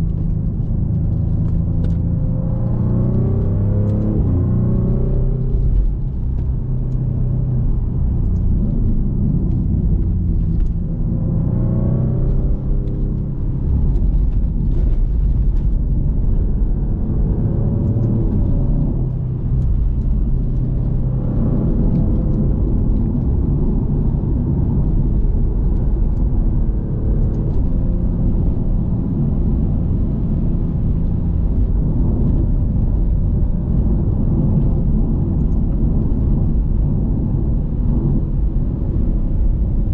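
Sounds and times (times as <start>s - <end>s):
car engine revving: 0.0s - 39.8s
road rumble: 0.0s - 39.9s.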